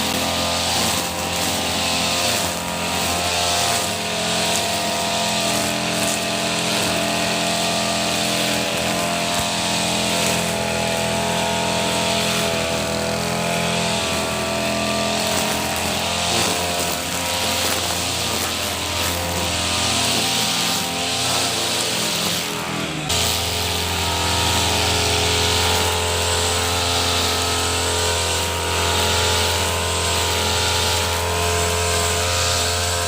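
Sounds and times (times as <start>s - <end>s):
brush cutter engine running: 0.0s - 33.0s.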